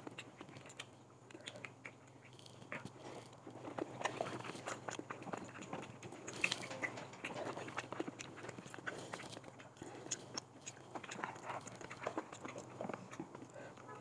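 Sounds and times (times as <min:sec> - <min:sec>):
people chewing: 0:00.0 - 0:14.0.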